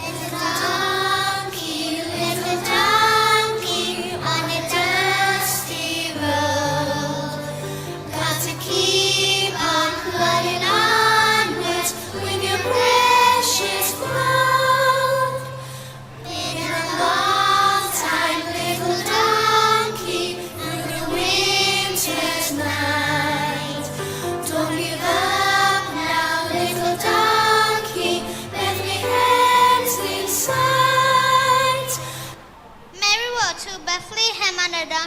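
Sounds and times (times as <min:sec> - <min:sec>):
children singing: 0:00.0 - 0:15.6, 0:16.2 - 0:32.2.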